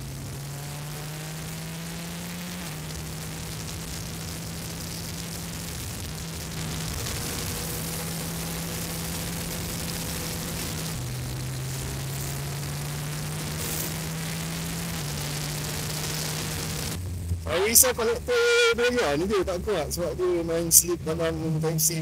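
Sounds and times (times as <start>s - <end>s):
motorcycle engine humming: 0.0s - 22.0s.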